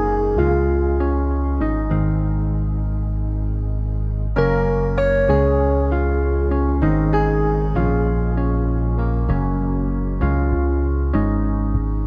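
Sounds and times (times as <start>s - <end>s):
soft piano-like keyboard music: 0.0s - 12.0s.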